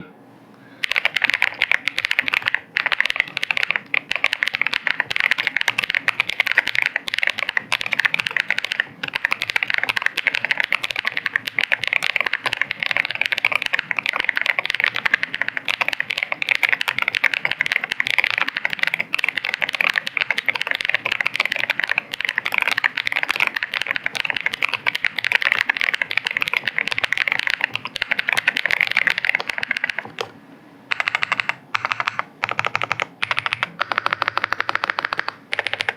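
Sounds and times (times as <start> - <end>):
mechanical keyboard typing: 0.8 - 35.9.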